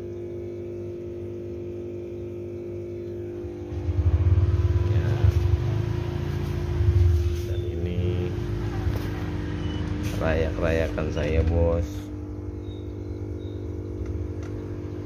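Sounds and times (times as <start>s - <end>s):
multi-tone hum: 0.0s - 15.0s.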